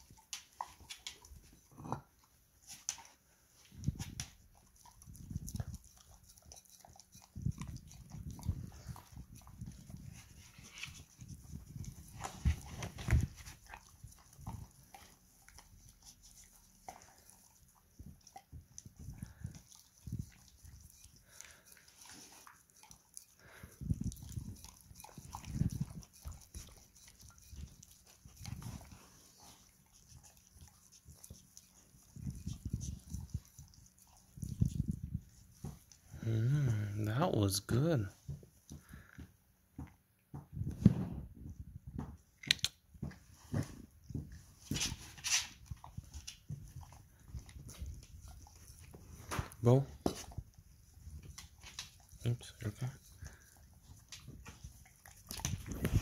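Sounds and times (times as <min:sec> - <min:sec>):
dog licking a plate: 0:00.0 - 0:39.1, 0:43.0 - 0:56.0.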